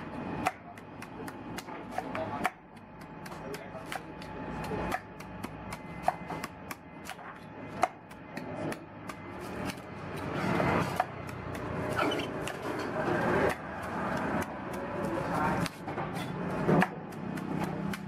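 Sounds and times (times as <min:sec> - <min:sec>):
cleaver chopping coconut husk: 0:00.0 - 0:18.0
blade scraping along coconut: 0:02.8 - 0:18.0.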